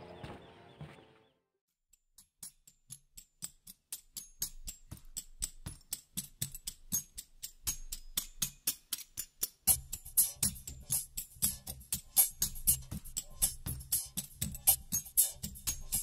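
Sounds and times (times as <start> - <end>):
music with fast percussive beat: 2.2 - 16.0.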